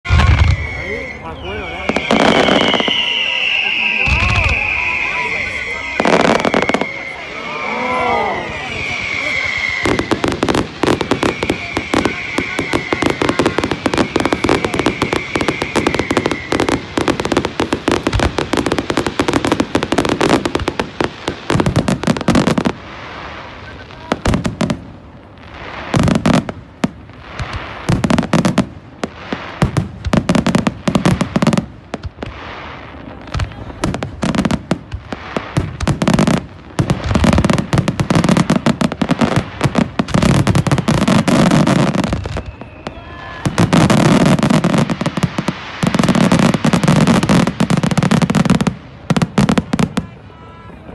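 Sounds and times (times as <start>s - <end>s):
fireworks bangs: 0.0s - 50.9s
fireworks crackling and popping: 0.0s - 50.9s.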